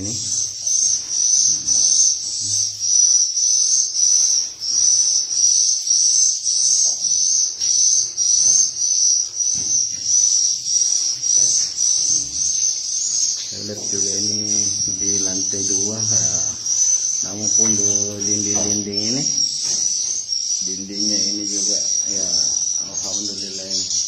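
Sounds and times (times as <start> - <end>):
high-pitched swiftlet chirping: 0.0 - 24.0.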